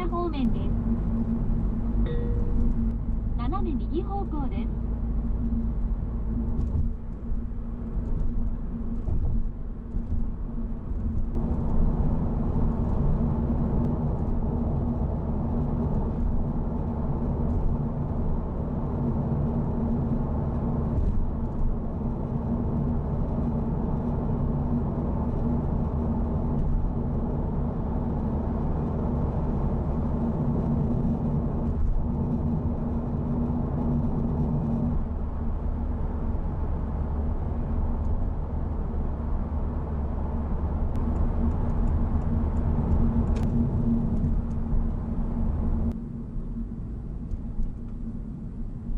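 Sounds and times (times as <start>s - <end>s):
car engine droning: 0.0s - 48.9s.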